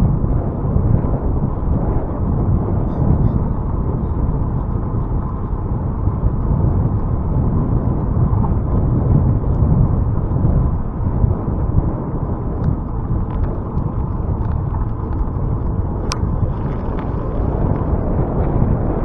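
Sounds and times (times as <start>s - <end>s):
tyre and road noise: 0.0s - 19.0s
wind buffeting microphone: 0.0s - 19.0s.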